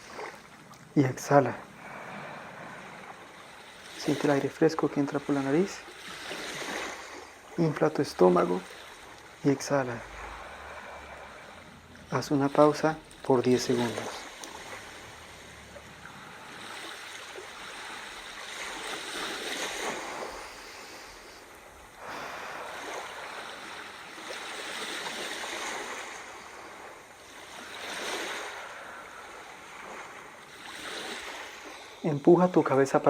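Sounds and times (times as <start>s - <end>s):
ocean waves washing in: 0.0s - 33.0s.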